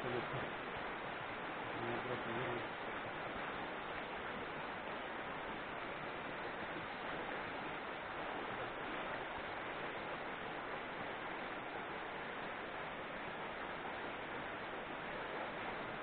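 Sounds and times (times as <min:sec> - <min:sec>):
river running over stones: 0:00.0 - 0:16.0.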